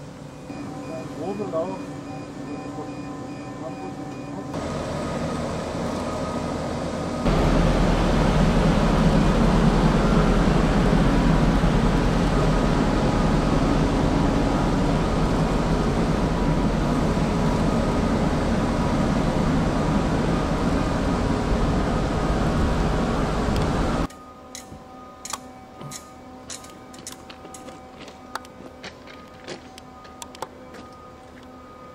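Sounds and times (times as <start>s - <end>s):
crane engine droning: 0.0s - 31.9s.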